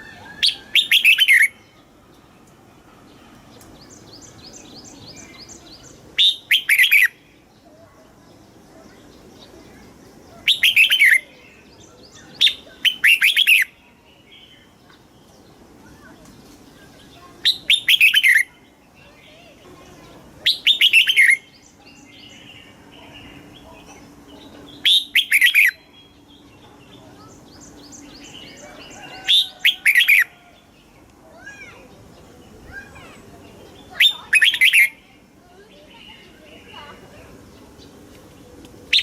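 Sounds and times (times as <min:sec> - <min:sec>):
bird song phrases: 0:00.0 - 0:39.0.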